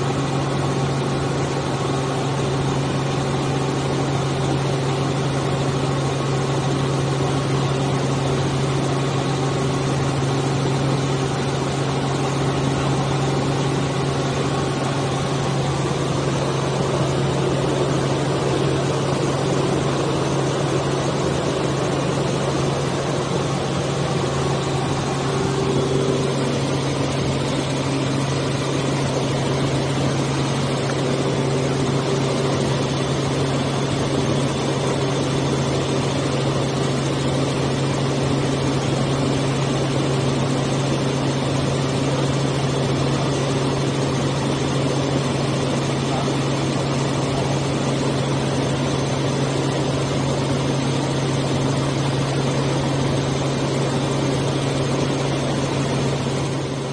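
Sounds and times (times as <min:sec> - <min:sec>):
helicopter engine and rotors droning: 0:00.0 - 0:56.9.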